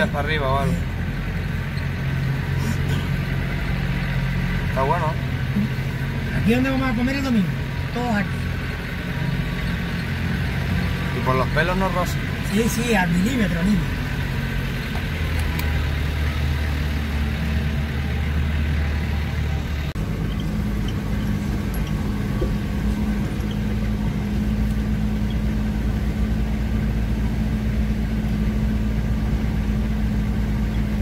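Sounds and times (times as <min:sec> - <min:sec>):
car engine running inside cab: 0:00.0 - 0:31.0.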